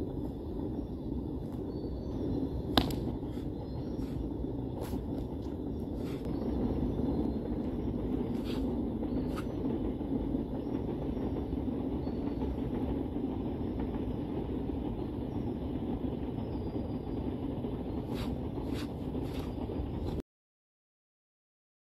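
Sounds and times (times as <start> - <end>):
low rumble of outdoor background: 0.0 - 20.2.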